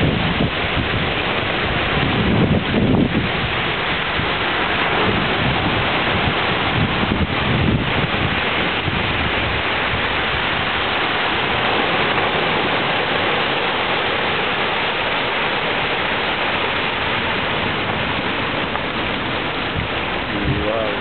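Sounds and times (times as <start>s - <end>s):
surf breaking on a beach: 0.0s - 21.0s.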